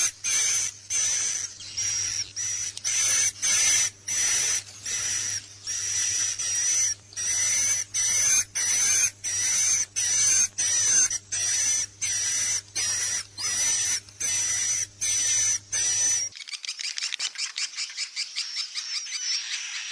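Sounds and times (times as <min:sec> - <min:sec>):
buzzing run of clicky chirps: 0:00.0 - 0:19.9.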